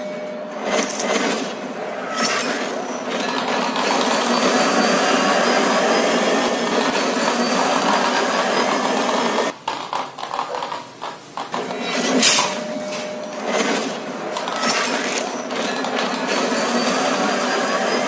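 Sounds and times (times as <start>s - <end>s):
spinning top whirring and rattling: 0.8s - 18.0s.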